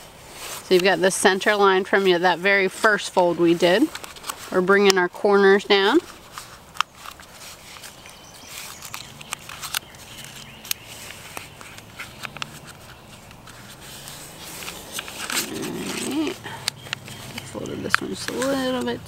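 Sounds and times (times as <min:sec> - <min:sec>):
paper rustling and crinkling: 0:00.0 - 0:19.0.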